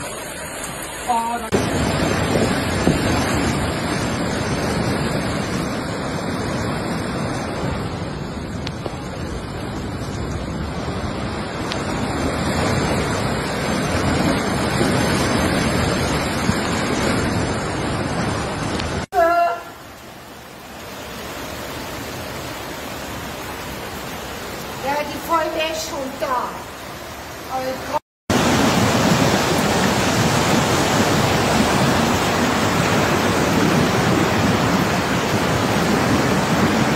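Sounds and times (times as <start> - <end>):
floodwater rushing: 0.0 - 36.9.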